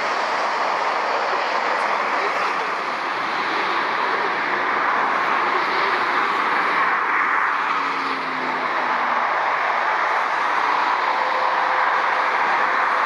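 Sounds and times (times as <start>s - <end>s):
jet aircraft: 0.0s - 13.0s
motorway traffic: 0.0s - 13.0s.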